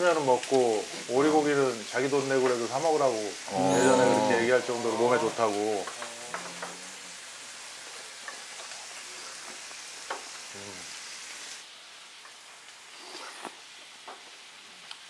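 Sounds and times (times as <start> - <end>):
meat sizzling on grill plate: 0.0 - 12.9.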